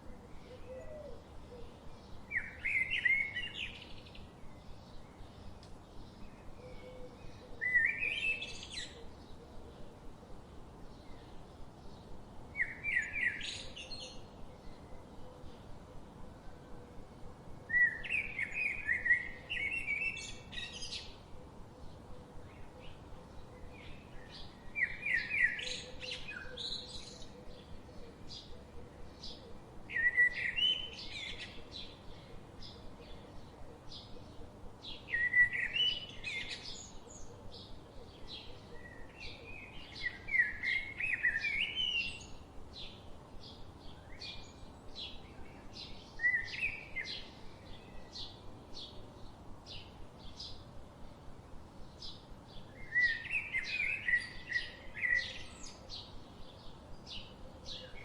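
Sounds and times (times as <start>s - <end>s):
faint steady background hiss: 0.0s - 58.0s.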